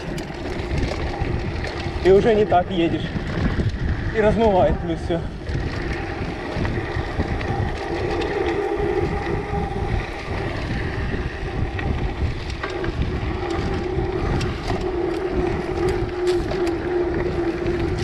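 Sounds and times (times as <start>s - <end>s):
bike tyre rumble: 0.0s - 18.0s
steady hum: 0.0s - 18.0s
wind on camera microphone: 0.0s - 18.0s.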